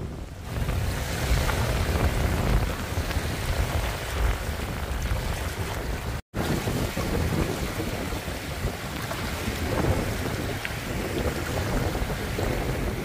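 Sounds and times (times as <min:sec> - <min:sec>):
waves lapping on rocky shore: 0:00.0 - 0:13.0
wind buffeting microphone: 0:00.0 - 0:13.0.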